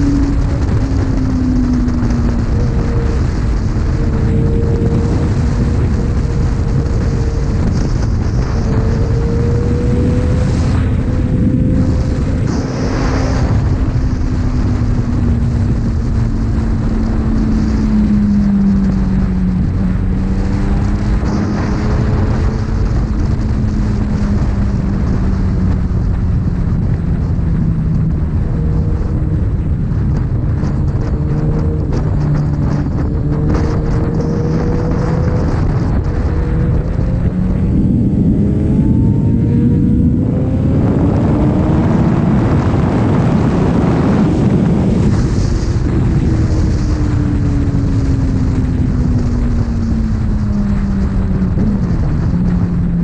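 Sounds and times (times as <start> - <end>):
motorcycle engine: 0.0 - 53.0
wind and road noise: 0.0 - 53.0.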